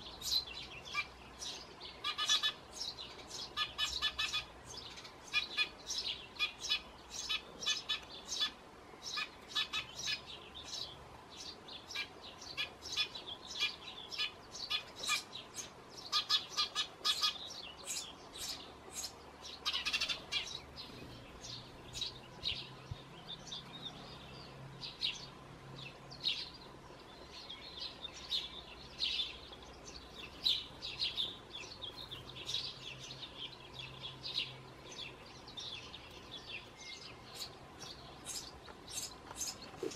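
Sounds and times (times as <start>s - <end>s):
bird chick chirping: 0.0s - 24.3s, 27.4s - 39.9s.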